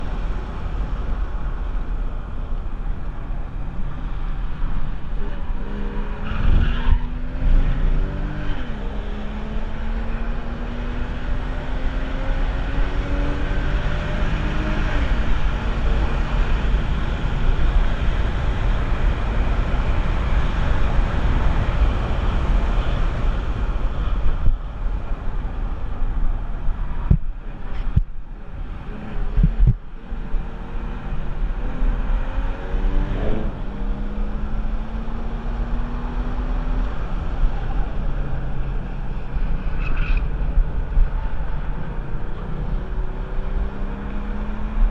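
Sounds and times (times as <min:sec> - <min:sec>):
wind and road noise: 0:00.0 - 0:44.9.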